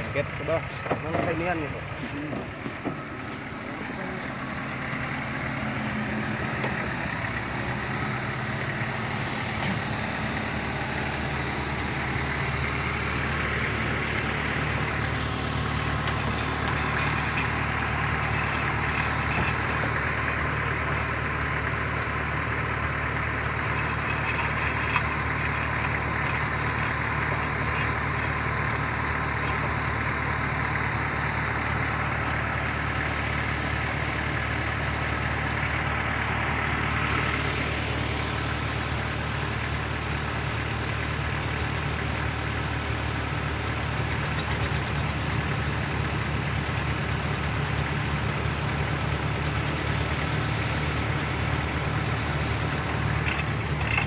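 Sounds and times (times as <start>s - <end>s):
ferry engine droning: 0.0s - 54.0s.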